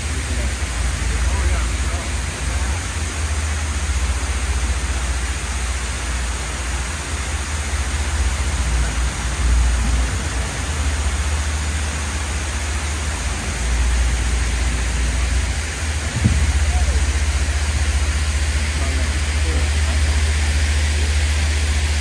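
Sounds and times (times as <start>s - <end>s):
strong low rumble: 0.0s - 22.0s
waterfall rushing: 0.0s - 22.0s.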